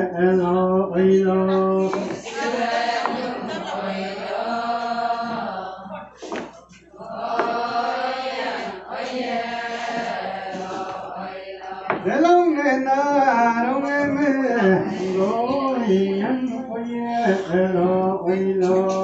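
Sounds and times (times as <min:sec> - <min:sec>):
women singing a chant: 0:01.4 - 0:19.0.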